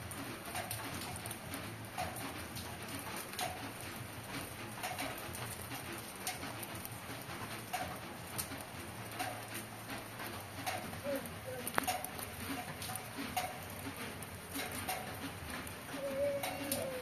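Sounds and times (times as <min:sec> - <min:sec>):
water dripping off foliage: 0:00.0 - 0:17.0.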